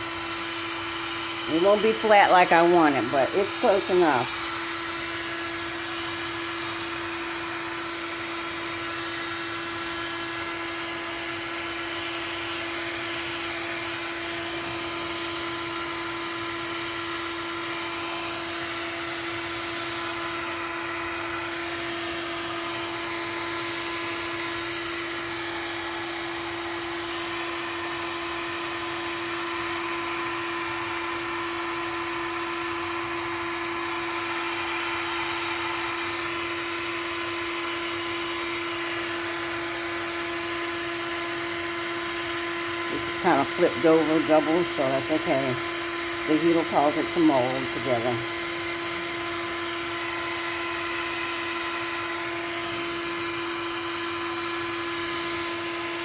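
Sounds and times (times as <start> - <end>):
heat gun blowing hot air: 0.0 - 56.0.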